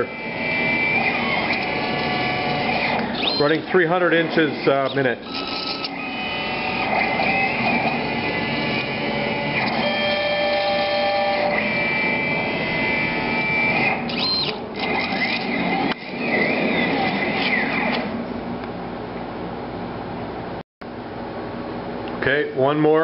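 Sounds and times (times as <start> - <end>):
drive motors whining: 0.0 - 18.8.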